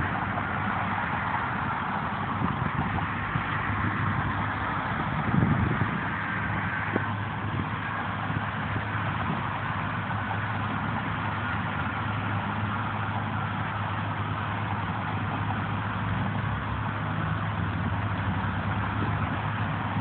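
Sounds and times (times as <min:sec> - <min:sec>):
truck engine humming: 0:00.0 - 0:20.0.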